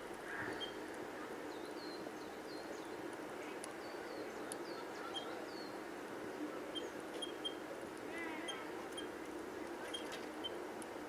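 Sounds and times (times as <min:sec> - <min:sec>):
songbirds chirping: 0:00.0 - 0:10.9
steady background hiss: 0:00.0 - 0:11.0.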